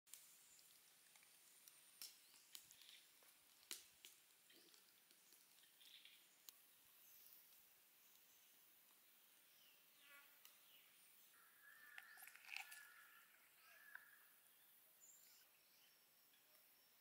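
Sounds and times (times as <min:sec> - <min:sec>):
faint high chirps and clicks: 0:00.1 - 0:09.1, 0:10.1 - 0:17.0.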